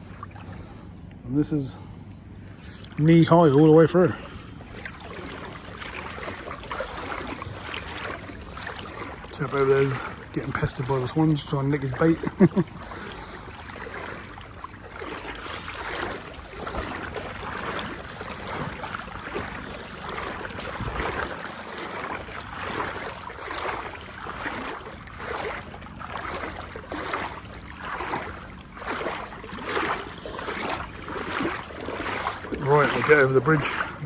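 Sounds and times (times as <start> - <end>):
wading through water: 0.0 - 34.0.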